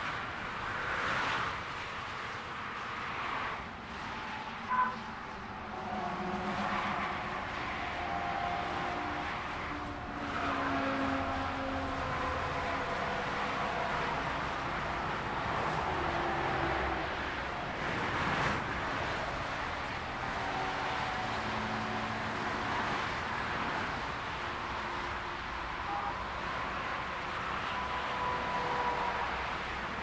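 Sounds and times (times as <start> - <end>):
dense motorway traffic: 0.0 - 30.0.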